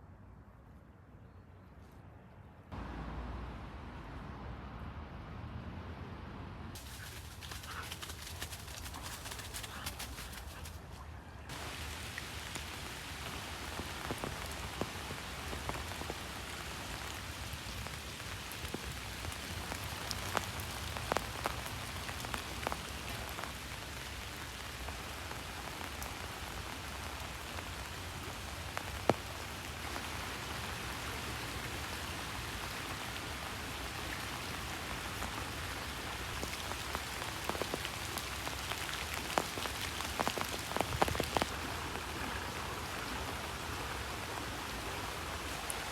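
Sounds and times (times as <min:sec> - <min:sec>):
rain falling: 0:02.7 - 0:05.1, 0:06.7 - 0:10.8, 0:11.5 - 0:45.9.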